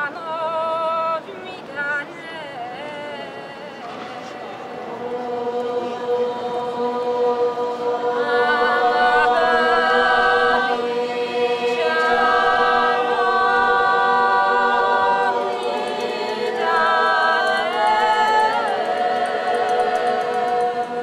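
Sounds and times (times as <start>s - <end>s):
group of voices singing: 0.0s - 21.0s.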